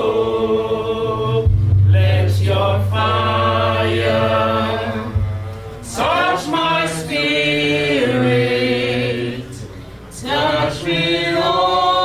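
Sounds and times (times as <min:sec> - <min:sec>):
choir singing slowly: 0:00.0 - 0:12.0.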